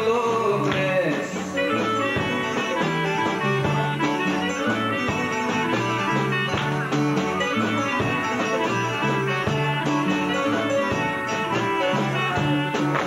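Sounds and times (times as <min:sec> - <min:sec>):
folk dance music: 0:00.0 - 0:13.0.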